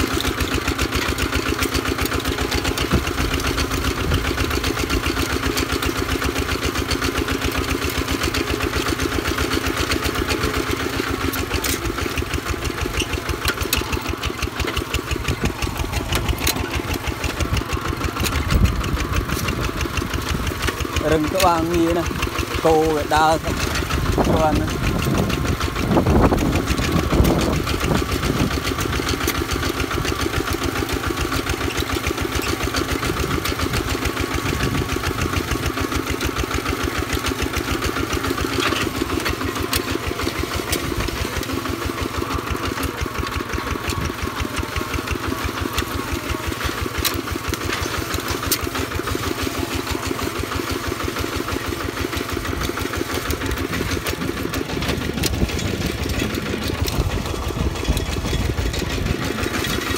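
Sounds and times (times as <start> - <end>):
faint clicks from plough frame: 0.0 - 59.9
walking tractor engine running: 0.0 - 59.9.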